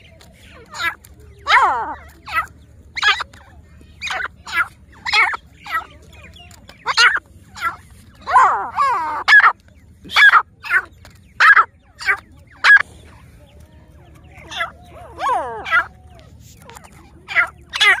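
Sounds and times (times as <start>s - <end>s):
francolins calling: 0.0s - 18.0s.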